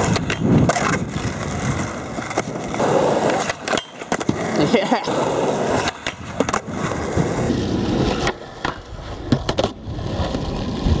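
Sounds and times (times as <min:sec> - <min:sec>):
skateboard clacking on ground: 0:00.0 - 0:11.0
skateboard wheels rolling on asphalt: 0:00.0 - 0:11.0.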